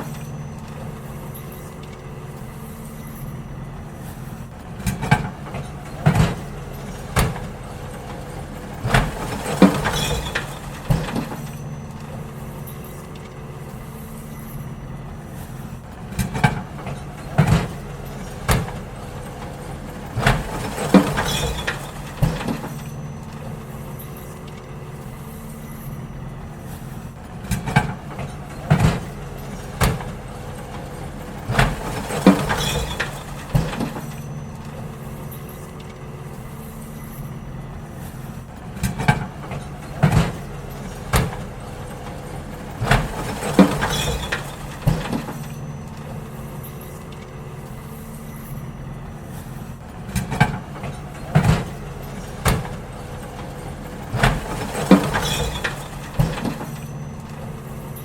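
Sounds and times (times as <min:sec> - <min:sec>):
bins clanking and banging: 0:00.0 - 0:58.0
garbage truck engine running: 0:00.0 - 0:58.0.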